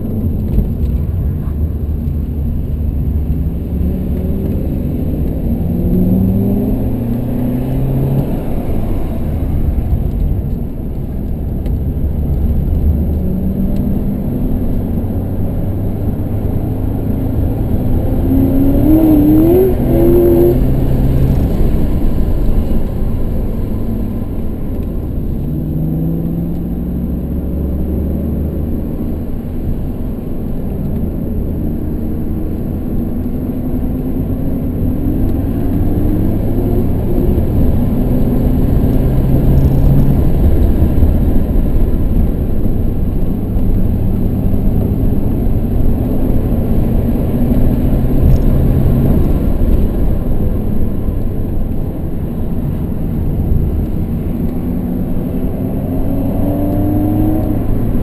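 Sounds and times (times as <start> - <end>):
car engine revving: 0.0 - 58.0
road and tyre rumble: 0.0 - 58.0.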